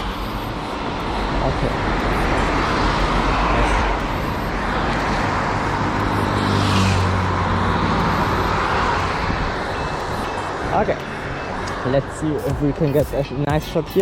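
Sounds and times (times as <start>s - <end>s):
vehicle passing with tyre hiss: 0.0s - 13.0s
traffic on wet street: 0.0s - 14.0s.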